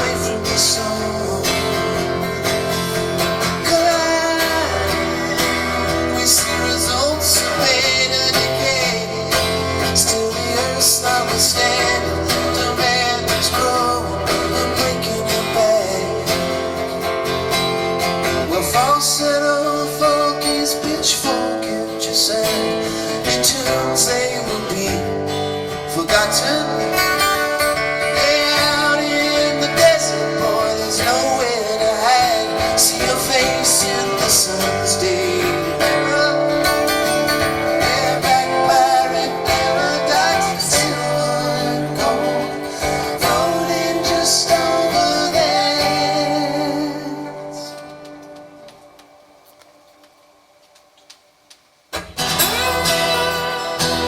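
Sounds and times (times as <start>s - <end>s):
live rock band with guitars: 0.0s - 51.2s, 51.9s - 54.0s.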